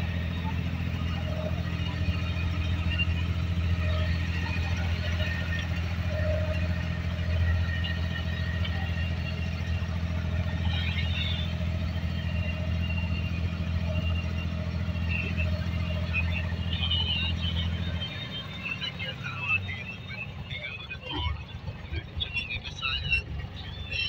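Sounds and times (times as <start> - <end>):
boat diesel engine drone: 0.0 - 24.0.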